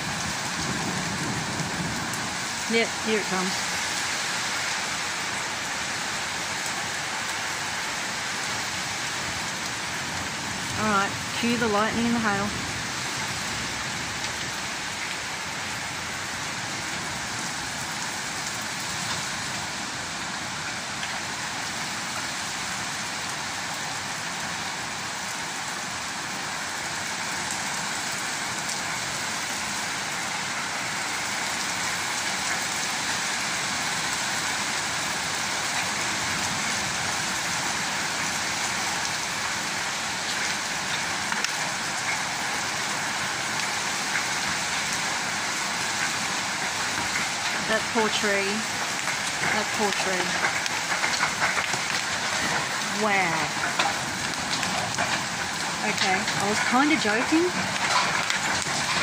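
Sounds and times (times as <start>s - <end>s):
heavy rain on brick paving: 0.0s - 59.0s.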